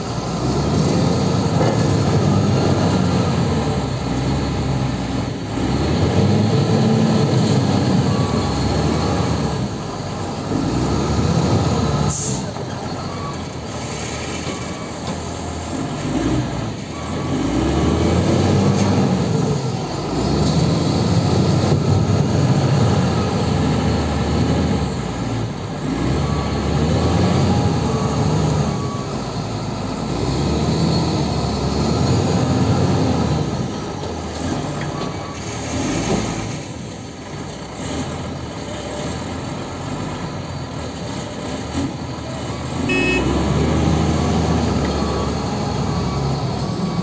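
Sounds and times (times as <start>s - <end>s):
wheel loader diesel engine revving: 0.0s - 47.0s.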